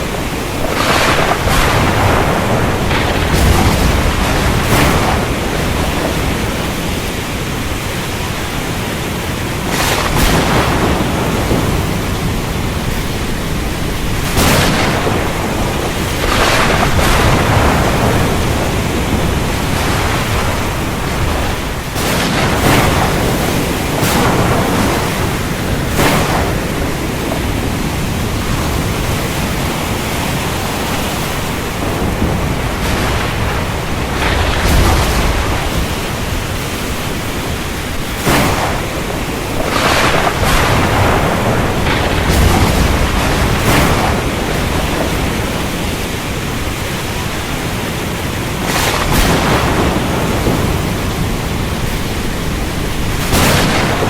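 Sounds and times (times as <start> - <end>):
heavy rain: 0.0 - 54.0
thunder cracks: 0.0 - 54.0.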